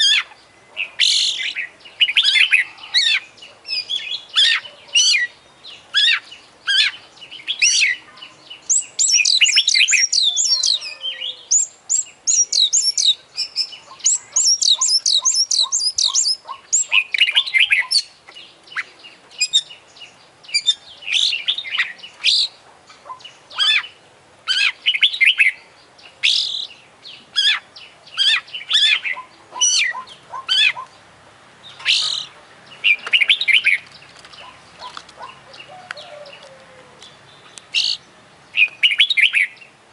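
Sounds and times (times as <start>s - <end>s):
bird singing with whistled notes: 0.0s - 39.8s.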